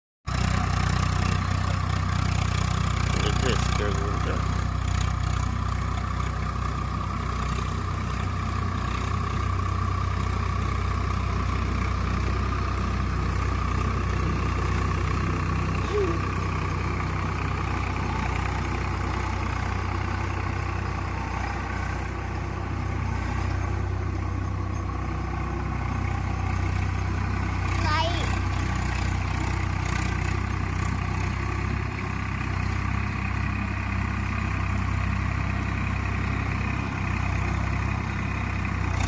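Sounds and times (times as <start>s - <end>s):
diesel tractor engine running: 0.3s - 39.0s.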